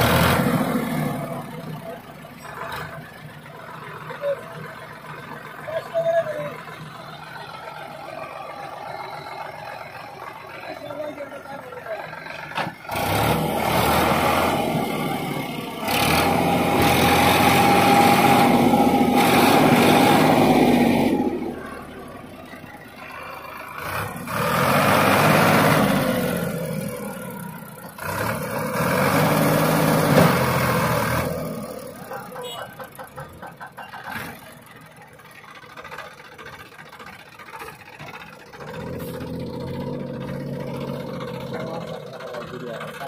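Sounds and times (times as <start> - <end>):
tractor diesel engine revving: 0.0 - 43.0.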